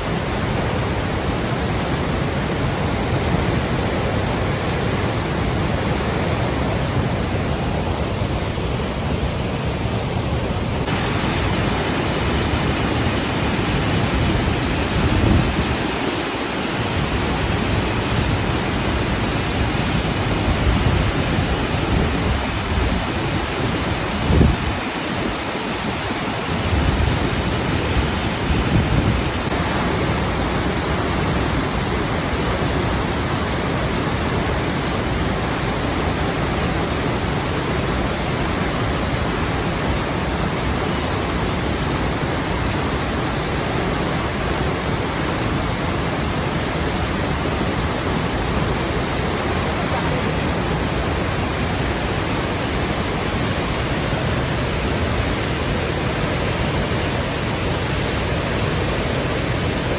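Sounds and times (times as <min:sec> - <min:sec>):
rushing water flowing: 0:00.0 - 0:59.9.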